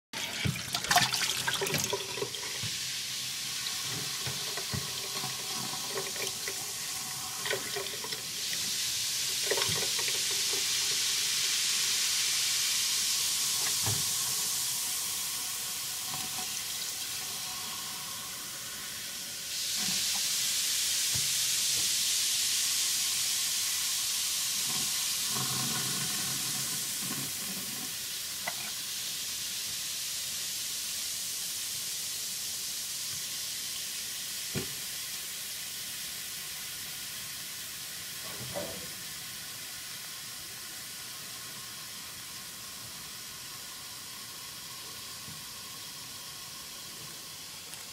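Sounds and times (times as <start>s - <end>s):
fizzing hiss: 0.2s - 47.9s.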